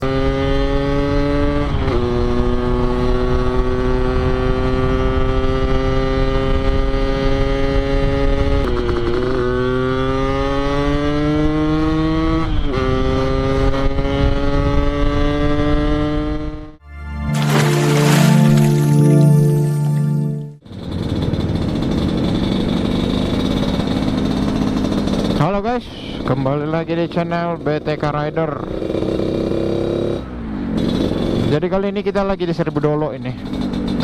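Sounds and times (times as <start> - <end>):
two-stroke motorcycle accelerating: 0.0 - 16.8, 20.6 - 34.0.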